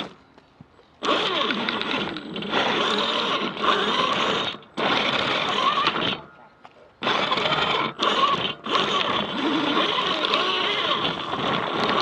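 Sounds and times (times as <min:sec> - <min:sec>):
electric motor grinding whine: 0:01.0 - 0:06.3, 0:07.0 - 0:12.0.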